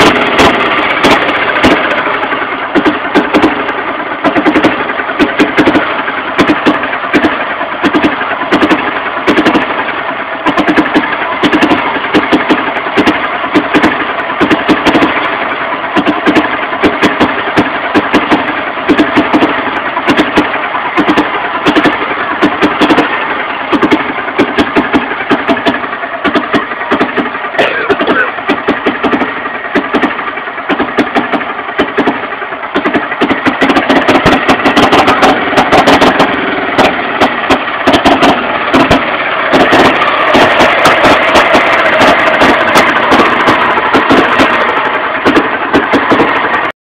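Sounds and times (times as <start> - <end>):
engine idling with pulsing beat: 0.0 - 46.8.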